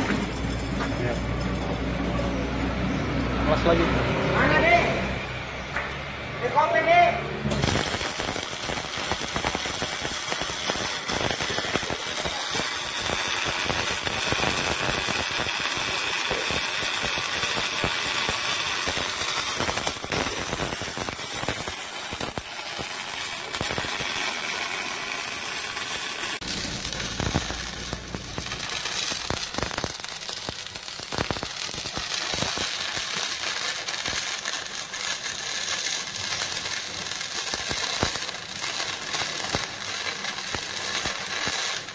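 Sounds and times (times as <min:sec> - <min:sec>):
welding arc crackling: 0:00.0 - 0:41.9.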